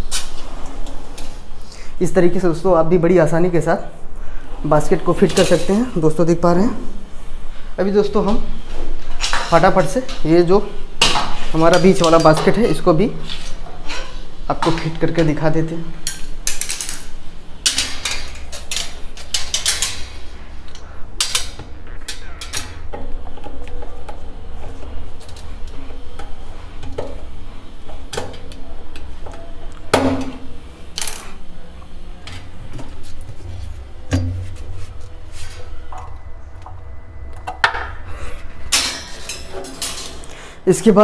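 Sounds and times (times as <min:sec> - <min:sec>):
low steady hum: 0:00.0 - 0:40.6.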